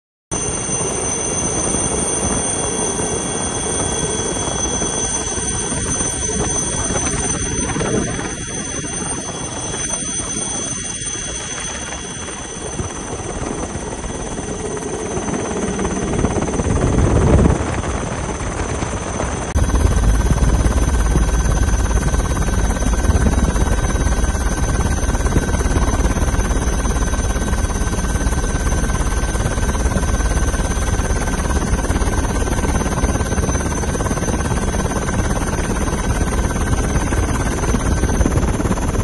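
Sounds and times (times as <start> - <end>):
helicopter engine and rotor: 0.3 - 39.0.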